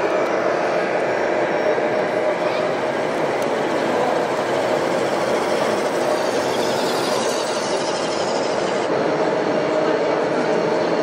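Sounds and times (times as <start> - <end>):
din of busy indoor hall: 0.0 - 11.0.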